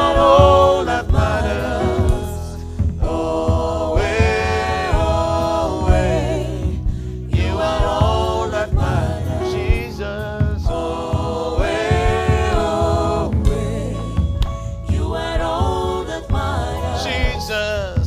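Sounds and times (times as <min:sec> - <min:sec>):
gospel choir singing: 0:00.0 - 0:18.0
low bass line: 0:00.0 - 0:18.0
steady beat: 0:00.0 - 0:18.0.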